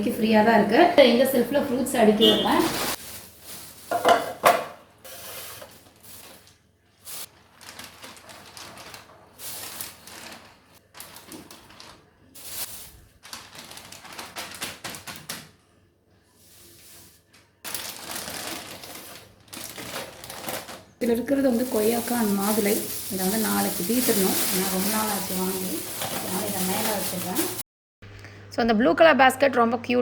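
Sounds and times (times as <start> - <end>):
plastic bags rustling: 2.0 - 15.6, 16.5 - 27.6.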